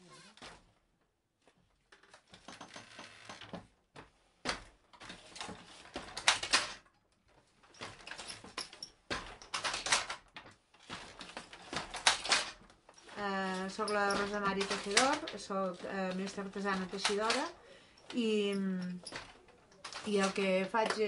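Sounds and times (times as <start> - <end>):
wooden loom knocking and clattering: 1.9 - 21.0.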